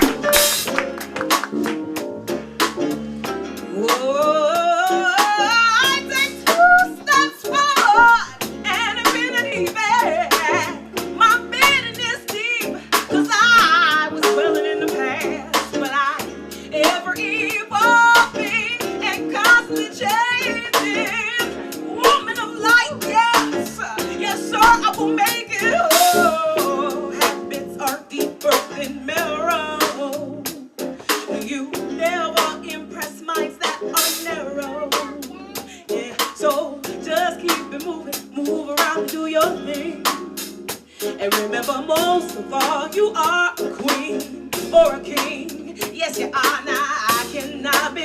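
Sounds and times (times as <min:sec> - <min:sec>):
live band music: 0:00.0 - 0:48.0
steady drum beat: 0:00.0 - 0:48.0.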